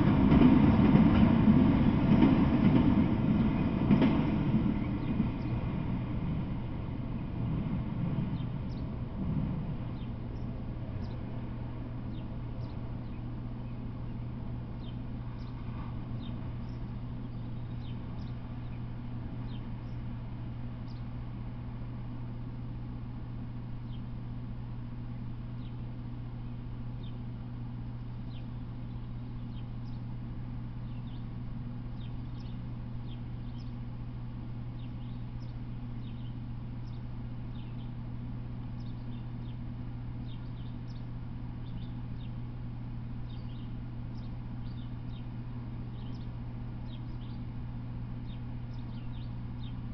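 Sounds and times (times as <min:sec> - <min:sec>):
birds chirping: 0:00.0 - 0:21.3, 0:23.8 - 0:49.9
low rumble: 0:00.0 - 0:49.9
steady low hum: 0:00.0 - 0:49.9.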